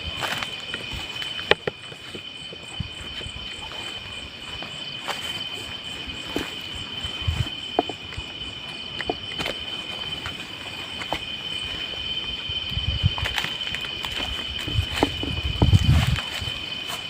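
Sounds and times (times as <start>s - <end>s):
cricket trill: 0.0s - 17.0s.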